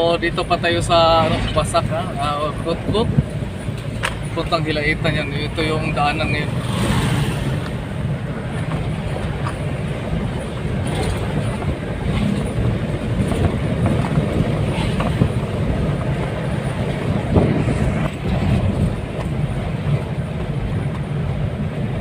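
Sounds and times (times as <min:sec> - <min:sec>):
vehicle road noise: 0:00.0 - 0:22.0.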